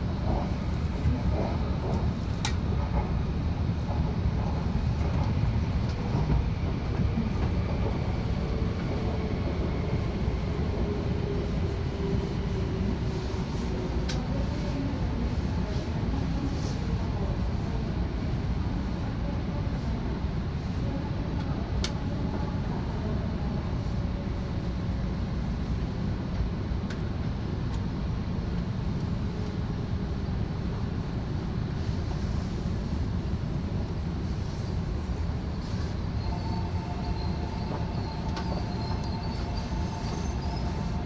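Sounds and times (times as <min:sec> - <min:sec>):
train running gear rumble: 0:00.0 - 0:41.0.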